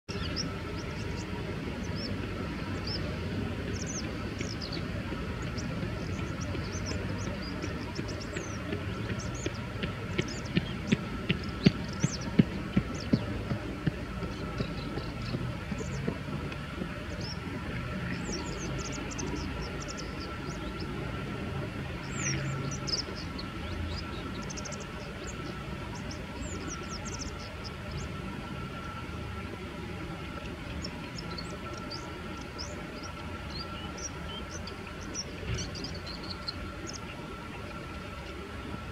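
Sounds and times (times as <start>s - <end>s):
low background rumble: 0.0s - 38.9s.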